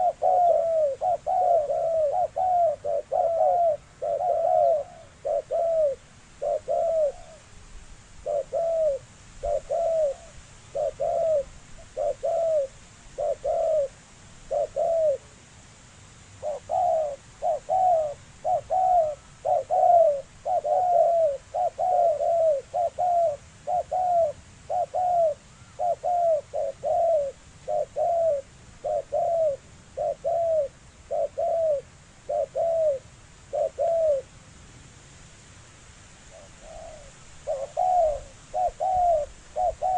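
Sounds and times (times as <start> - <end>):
dove cooing: 0.0 - 7.5, 8.2 - 15.3, 16.4 - 34.3, 36.3 - 39.9.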